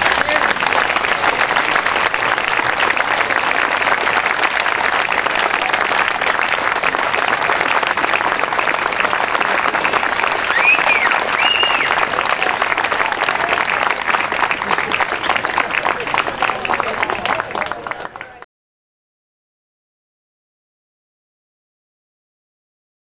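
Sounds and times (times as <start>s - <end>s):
crowd applauding: 0.0s - 18.5s.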